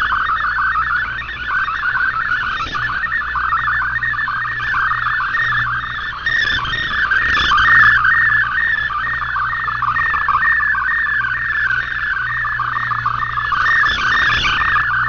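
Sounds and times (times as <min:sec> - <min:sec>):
low hum: 0:00.0 - 0:15.0
warbling data tones on radio: 0:00.0 - 0:15.0.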